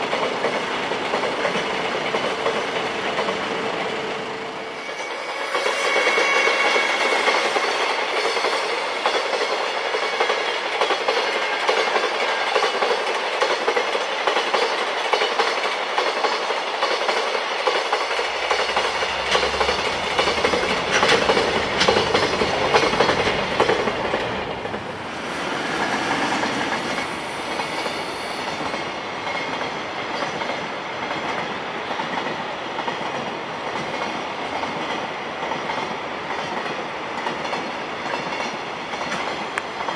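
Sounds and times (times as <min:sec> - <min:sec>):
train wheels clattering over rails: 0:00.0 - 0:04.1, 0:05.1 - 0:39.9.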